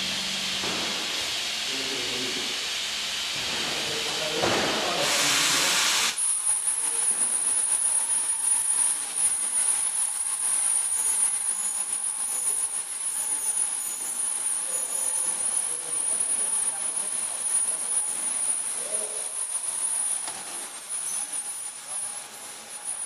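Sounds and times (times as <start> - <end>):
crackling sizzling welding arc: 0.0 - 23.0
welding hiss: 0.0 - 23.0
thin high whine: 3.7 - 23.0.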